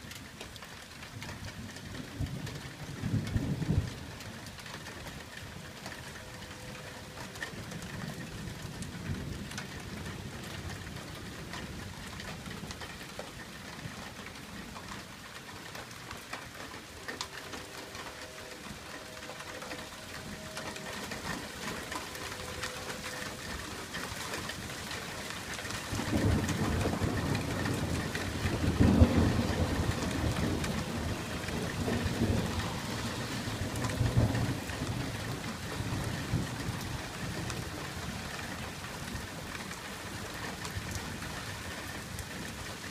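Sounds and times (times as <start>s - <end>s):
rain falling on pavement: 0.0s - 42.9s
rolling thunder: 1.8s - 13.1s, 16.6s - 41.4s.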